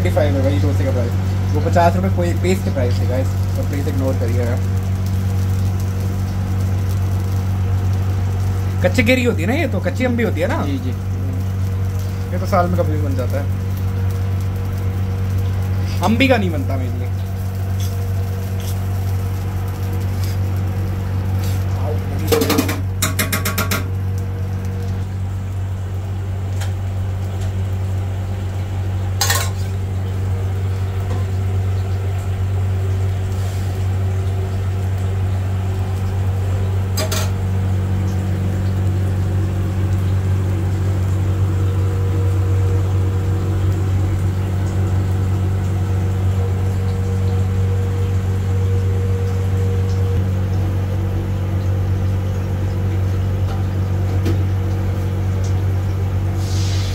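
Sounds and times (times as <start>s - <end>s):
kitchen equipment humming: 0.0s - 56.9s.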